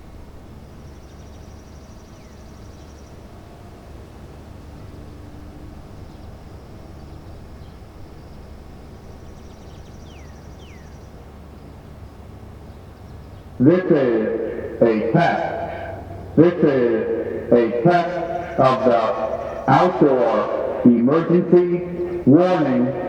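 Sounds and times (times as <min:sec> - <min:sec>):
birds chirping: 0:00.4 - 0:23.0.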